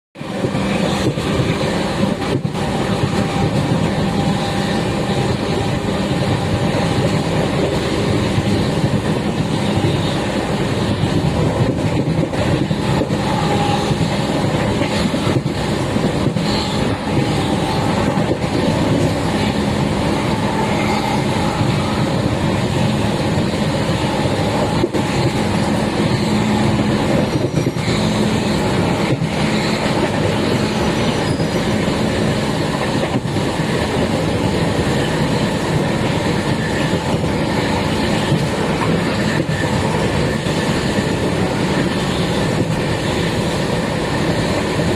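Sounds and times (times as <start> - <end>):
train wheels rumbling on track: 0.1 - 44.9
sharp track clicks: 0.2 - 44.9.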